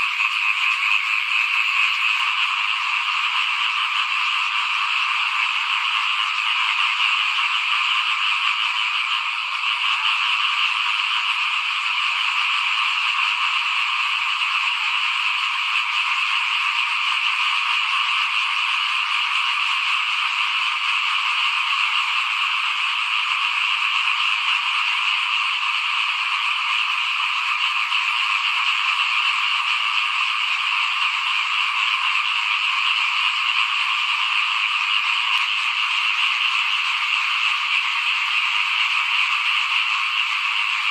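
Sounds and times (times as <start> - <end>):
chorus of frogs calling: 0.0 - 40.9.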